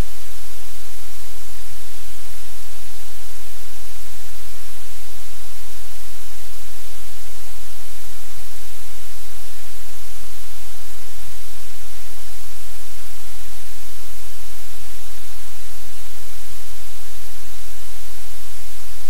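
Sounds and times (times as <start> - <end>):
static hiss: 0.0 - 19.0.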